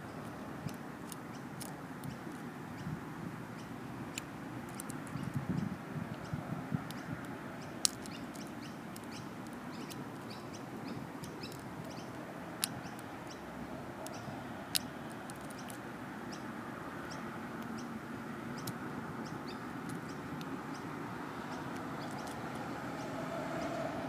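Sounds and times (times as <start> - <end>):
outdoor background noise: 0.0 - 24.0.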